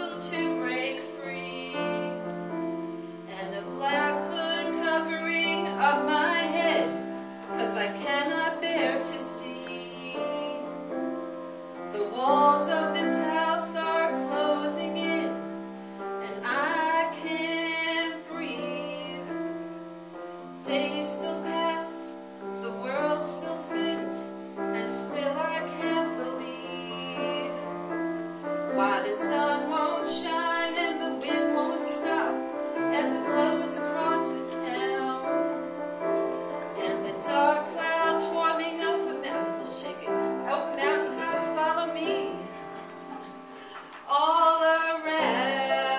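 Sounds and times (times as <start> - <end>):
woman singing: 0.0 - 2.6, 3.2 - 11.0, 11.9 - 15.6, 16.2 - 19.5, 20.6 - 28.0, 28.7 - 43.1, 43.7 - 45.9
piano accompaniment: 0.0 - 45.9.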